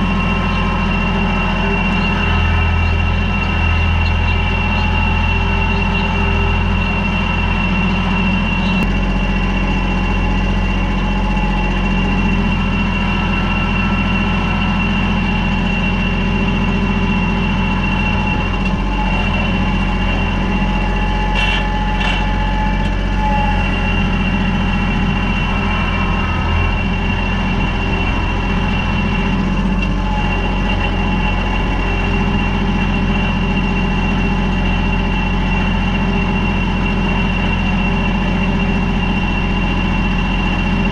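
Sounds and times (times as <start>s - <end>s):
steady high whine: 0.0s - 40.9s
tractor diesel engine running: 0.0s - 40.9s.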